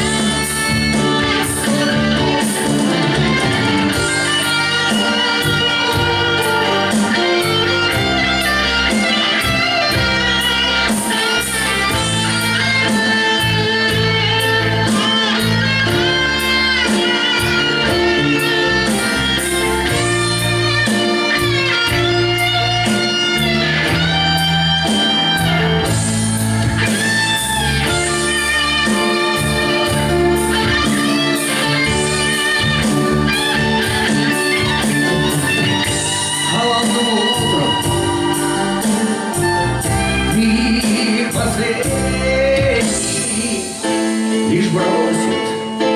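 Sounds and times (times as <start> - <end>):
bass line: 0.0 - 43.7
lead guitar bending notes: 0.0 - 45.9.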